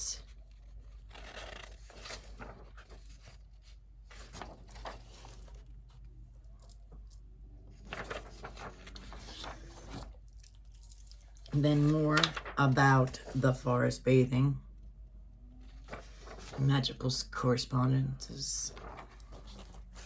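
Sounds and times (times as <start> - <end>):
paper pages rustling: 0.0 - 13.7, 15.6 - 17.0, 18.6 - 20.0.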